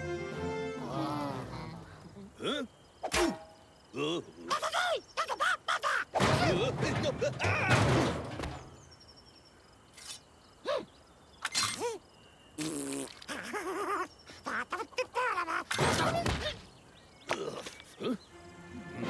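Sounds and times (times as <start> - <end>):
faint high birdsong-like tones: 1.6 - 19.0.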